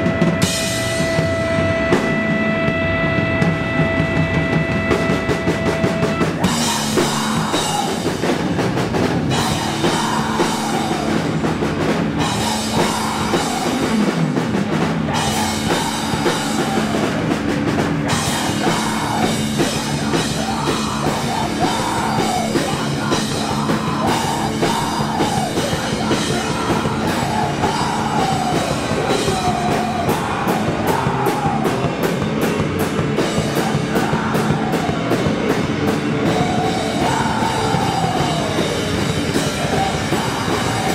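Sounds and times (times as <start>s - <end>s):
metal band playing: 0.0s - 40.9s.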